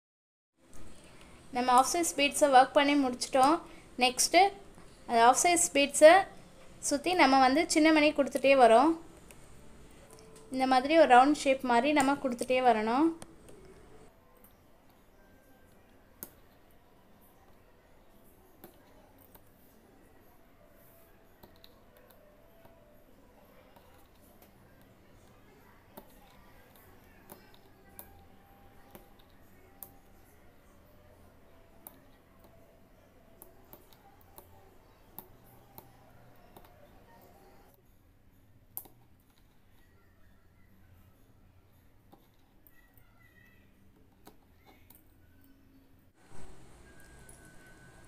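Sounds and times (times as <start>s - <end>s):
faint low hum: 0.6s - 48.0s.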